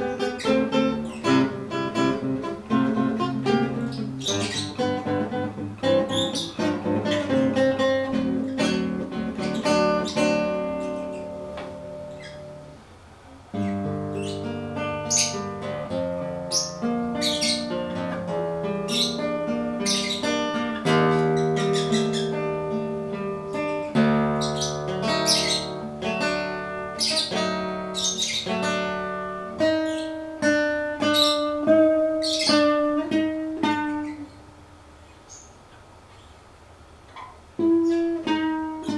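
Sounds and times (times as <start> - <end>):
acoustic guitar plucked melody: 0.0 - 35.2, 37.0 - 38.9.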